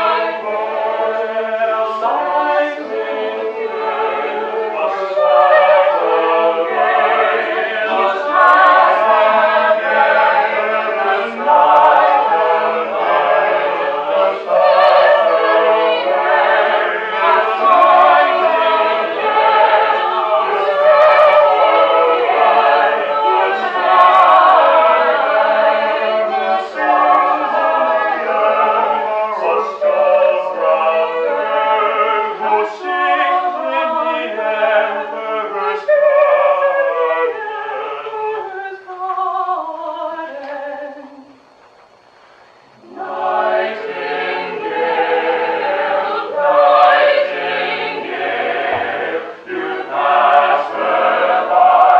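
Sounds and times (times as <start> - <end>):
mixed voices singing in harmony: 0.0 - 51.9.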